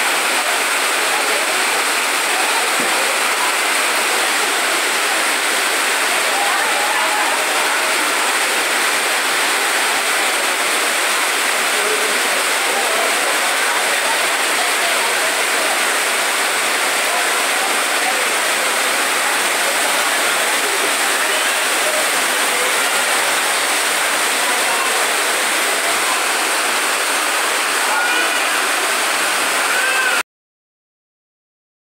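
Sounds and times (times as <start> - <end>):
faint voices: 0.0 - 30.2
floodwater rushing: 0.0 - 30.2
torrential rain: 0.0 - 30.2.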